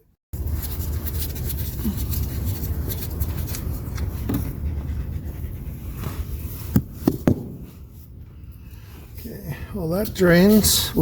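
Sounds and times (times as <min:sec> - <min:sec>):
steady low rumble: 0:00.4 - 0:11.0.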